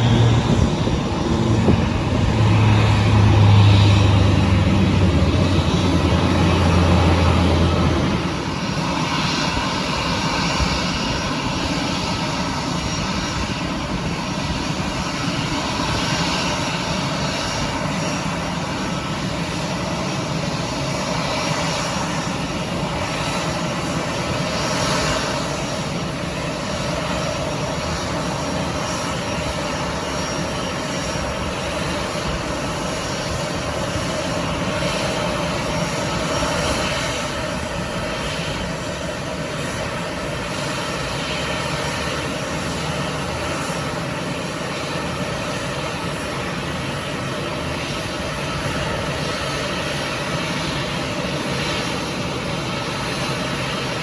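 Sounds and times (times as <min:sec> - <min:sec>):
aircraft engines rushing: 0:00.0 - 0:54.0.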